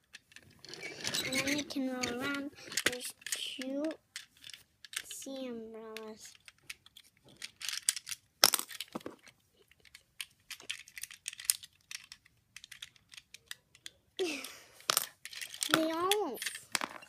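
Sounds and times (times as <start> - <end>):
plastic toy pieces clicking: 0.0 - 17.0.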